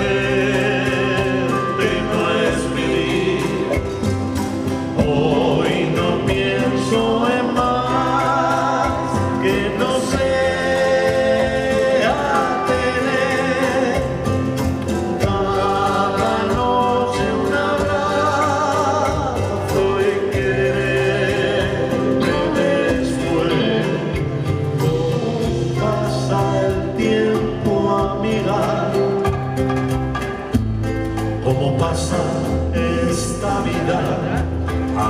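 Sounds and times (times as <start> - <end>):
person singing: 0.0 - 29.9, 31.4 - 35.0
acoustic guitars playing: 0.0 - 35.0
double bass playing: 0.0 - 35.0.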